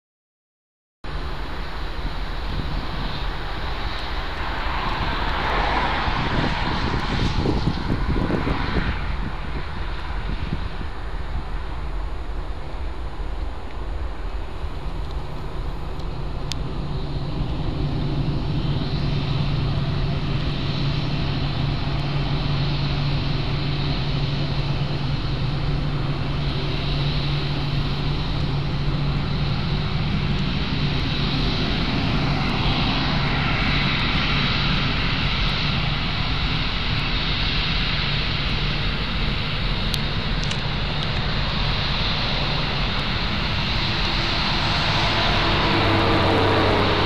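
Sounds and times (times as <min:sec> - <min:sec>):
jet engine high whine: 0:01.0 - 0:47.0
jet engines humming: 0:01.0 - 0:47.0.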